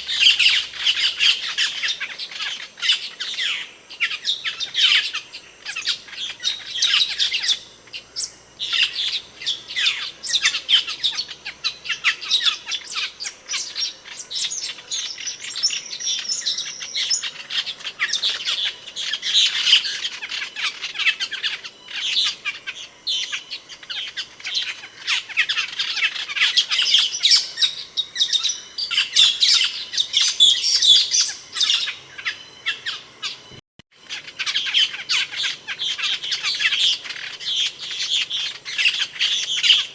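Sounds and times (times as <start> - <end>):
starling chirping: 0.0 - 39.9.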